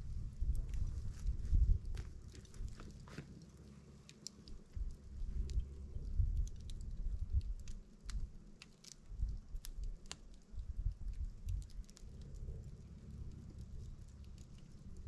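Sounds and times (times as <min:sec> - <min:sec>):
campfire crackling: 0:00.0 - 0:15.0
low rumble: 0:00.0 - 0:15.0
sharp pops and ticks: 0:00.4 - 0:15.0.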